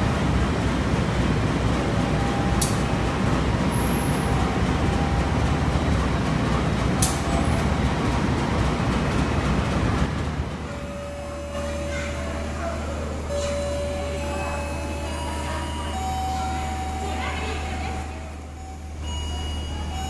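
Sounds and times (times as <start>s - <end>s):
diesel locomotive engine humming: 0.0s - 20.0s.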